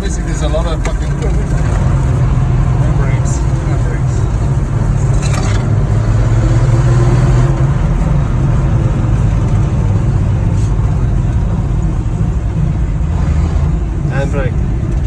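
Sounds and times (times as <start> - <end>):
pickup engine droning: 0.0 - 15.0.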